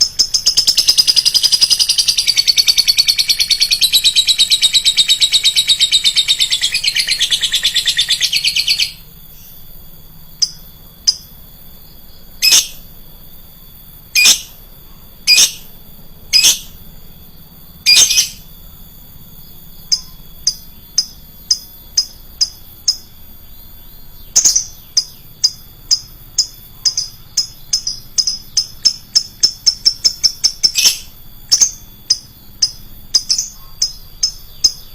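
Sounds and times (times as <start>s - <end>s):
bird chattering trill: 0.0s - 9.6s, 10.3s - 11.4s, 12.1s - 12.9s, 14.1s - 14.6s, 15.2s - 18.5s, 19.8s - 34.9s
sharp bird chirps: 0.0s - 13.0s, 13.6s - 34.9s.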